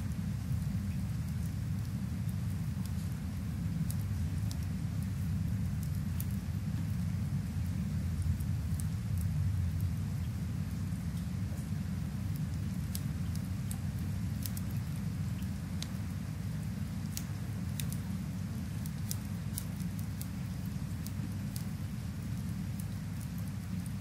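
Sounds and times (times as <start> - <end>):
rain rumble: 0.0 - 24.0
wood fire crackling: 0.0 - 24.0.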